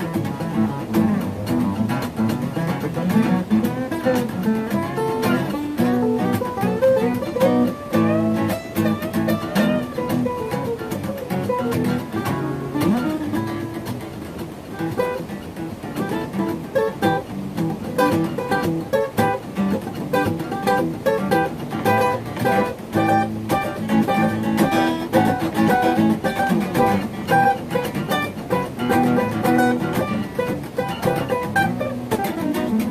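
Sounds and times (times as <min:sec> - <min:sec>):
acoustic guitar blues: 0:00.0 - 0:32.9.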